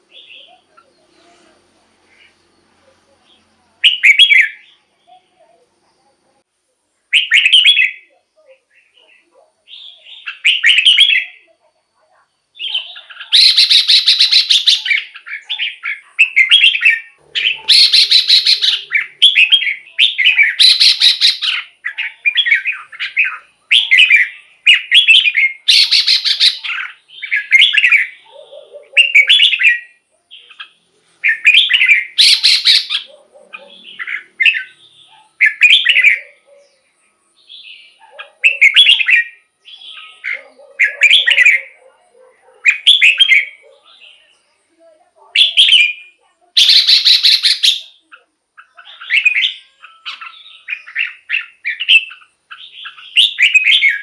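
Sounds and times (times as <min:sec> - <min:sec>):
bulbul singing warbled phrases: 0:00.0 - 0:06.1, 0:07.1 - 0:54.0.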